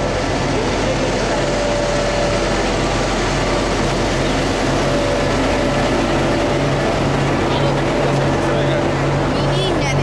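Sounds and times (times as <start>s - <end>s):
train wheels and engine rumbling: 0.0s - 10.0s.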